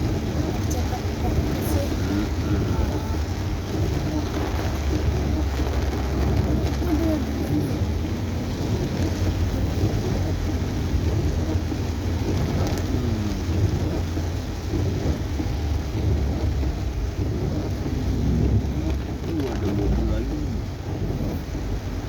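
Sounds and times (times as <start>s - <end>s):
engine and tyre rumble: 0.0s - 22.0s
rain pattering on car: 0.0s - 22.0s.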